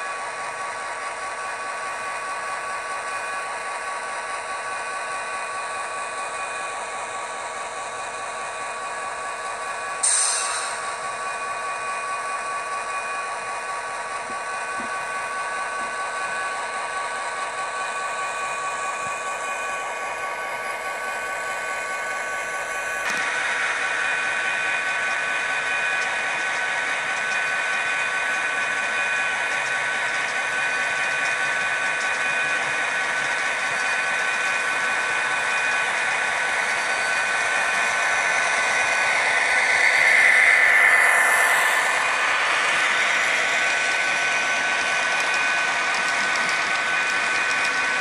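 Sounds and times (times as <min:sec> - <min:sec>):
model locomotive diesel engine sound: 0:00.0 - 0:48.0.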